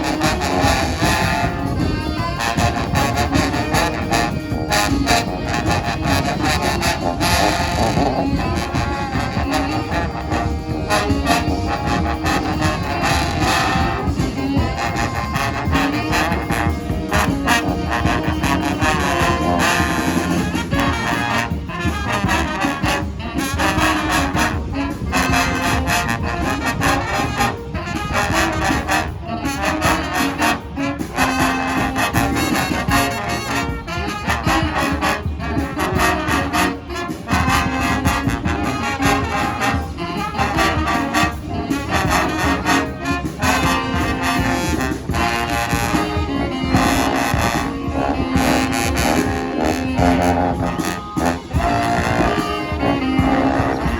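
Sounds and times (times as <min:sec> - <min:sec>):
brass band playing: 0:00.0 - 0:53.9.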